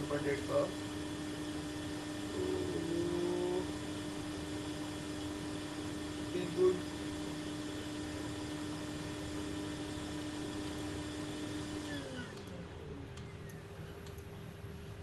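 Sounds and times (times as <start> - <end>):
electric blower motor humming: 0.0 - 14.2.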